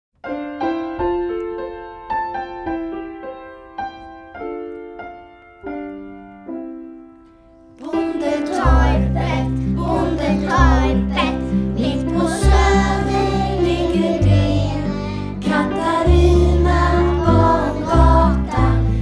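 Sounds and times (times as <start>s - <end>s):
piano playing slow melody: 0.2s - 19.0s.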